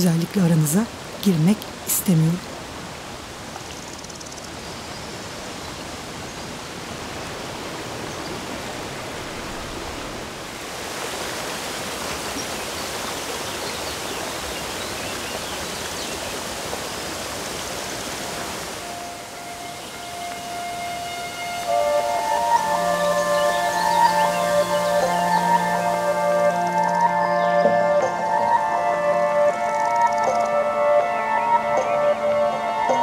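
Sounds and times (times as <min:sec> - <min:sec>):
waterfall and stream rushing: 0:00.0 - 0:33.0.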